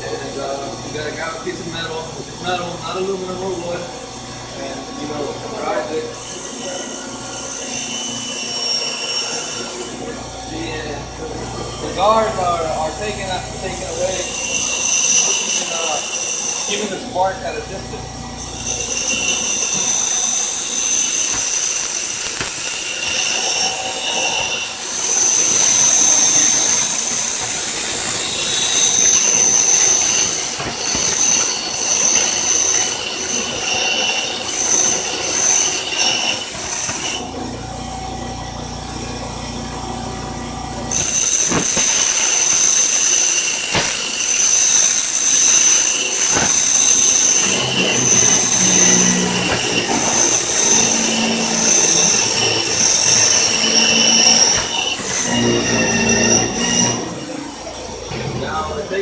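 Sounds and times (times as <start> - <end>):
grinder motor hum: 0.0 - 59.0
grinder screeching on metal: 0.0 - 59.0.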